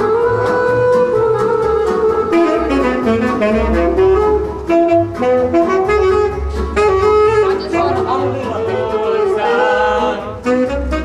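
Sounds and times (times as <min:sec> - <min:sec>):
band music: 0:00.0 - 0:11.0
rhythmic bass line: 0:00.0 - 0:11.0
saxophone melody: 0:00.0 - 0:11.0.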